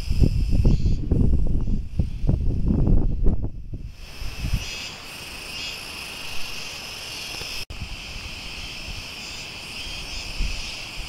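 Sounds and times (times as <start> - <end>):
cicadas shrilling: 0.0 - 11.0.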